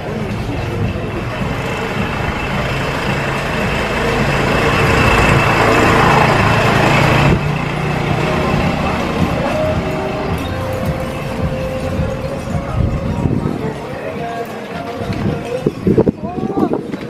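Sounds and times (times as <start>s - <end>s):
motorbike engine running: 0.0s - 13.9s.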